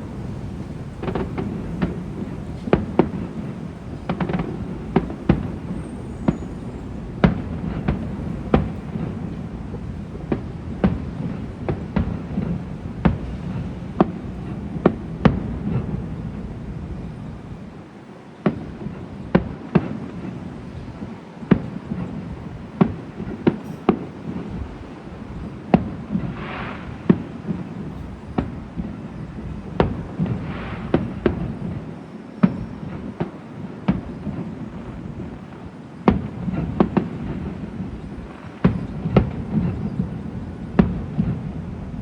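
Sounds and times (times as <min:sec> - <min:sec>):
fireworks bangs: 0:00.0 - 0:17.8, 0:18.4 - 0:42.0
fireworks hissing bursts: 0:00.0 - 0:17.8, 0:18.4 - 0:42.0.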